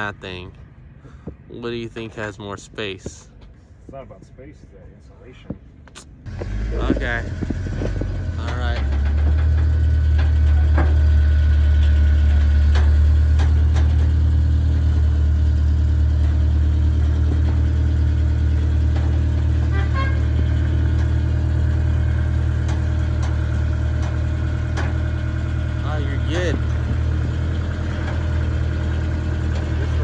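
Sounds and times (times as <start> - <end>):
car engine idling: 5.3 - 30.0.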